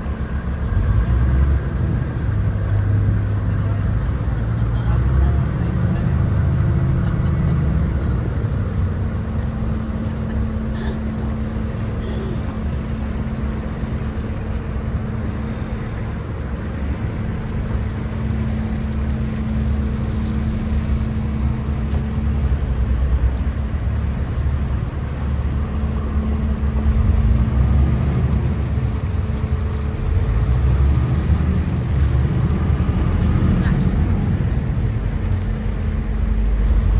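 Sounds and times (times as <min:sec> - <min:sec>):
ship engines rumbling: 0:00.0 - 0:36.9.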